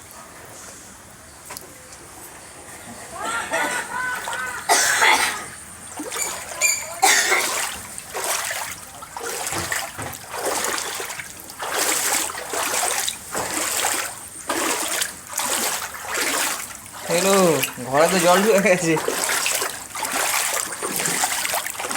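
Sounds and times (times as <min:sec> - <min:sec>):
floodwater splashing in surges: 0:03.1 - 0:21.9.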